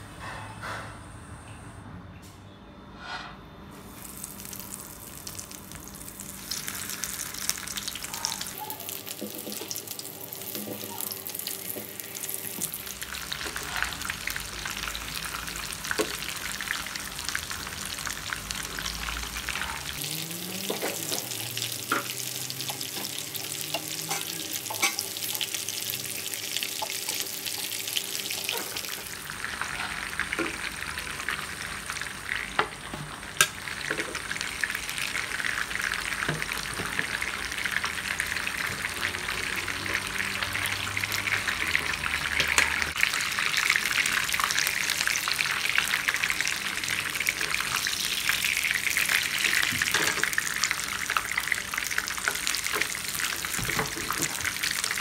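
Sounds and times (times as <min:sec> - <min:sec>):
food sizzling in hot oil: 0:03.8 - 0:55.0.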